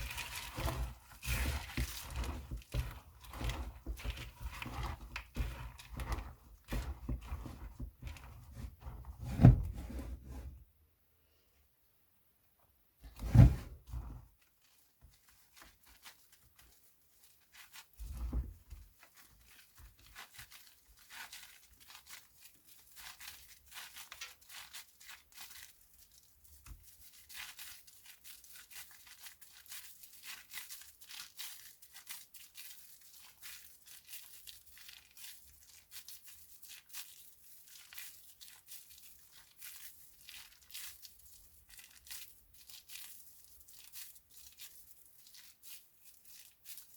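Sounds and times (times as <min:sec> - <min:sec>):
soap crumbling and crunching: 0:00.0 - 0:10.0, 0:13.0 - 0:46.9.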